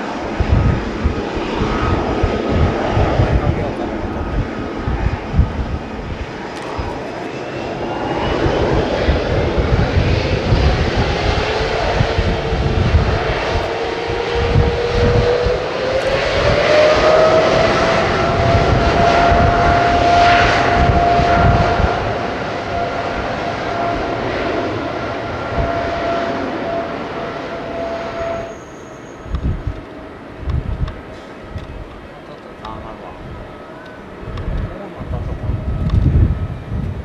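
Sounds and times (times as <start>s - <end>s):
jet fan whine: 0.0s - 28.6s, 29.2s - 37.0s
jet engine roar: 0.0s - 37.0s.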